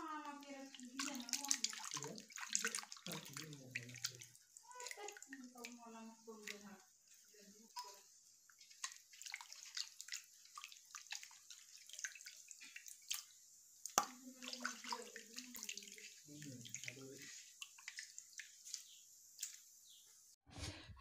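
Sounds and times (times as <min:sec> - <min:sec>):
water splashing and dripping: 0:00.0 - 0:19.8.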